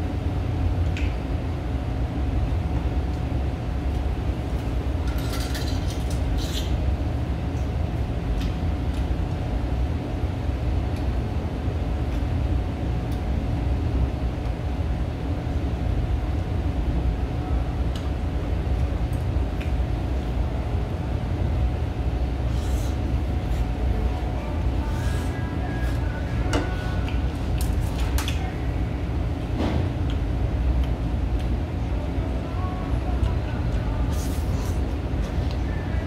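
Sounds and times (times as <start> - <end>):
faint constant hum: 0.0 - 36.0
restaurant room noise: 0.0 - 36.0.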